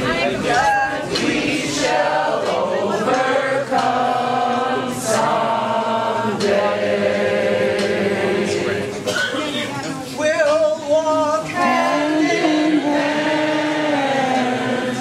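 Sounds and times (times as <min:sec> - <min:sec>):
crowd singing in unison: 0:00.0 - 0:09.7, 0:11.2 - 0:15.0.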